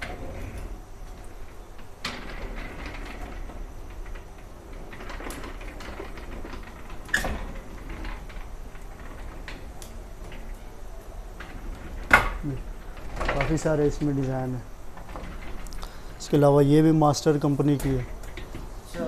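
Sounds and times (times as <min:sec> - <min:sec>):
display frames clacking: 0:00.0 - 0:19.0.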